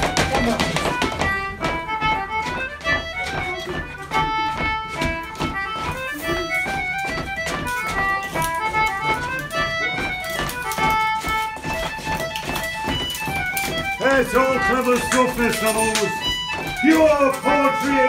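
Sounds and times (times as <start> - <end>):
concertina dance tune: 0.0 - 18.0
sharp taps: 0.0 - 18.0.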